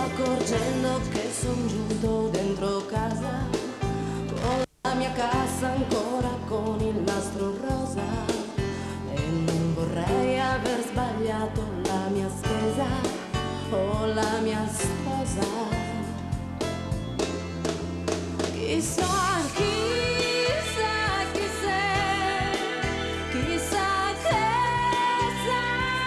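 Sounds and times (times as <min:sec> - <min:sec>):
woman singing pop song: 0:00.0 - 0:16.5, 0:18.4 - 0:26.0.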